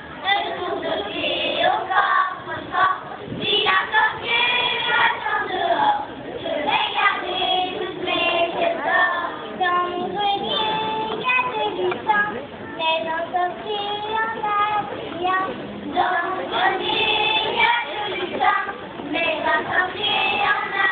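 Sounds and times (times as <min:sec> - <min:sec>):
children singing together: 0:00.0 - 0:12.1, 0:12.8 - 0:20.9.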